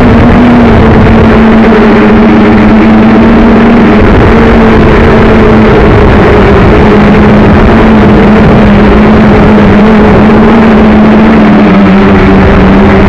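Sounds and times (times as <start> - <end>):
drone motors humming: 0.0 - 13.0
wind gusting on microphone: 0.0 - 13.0.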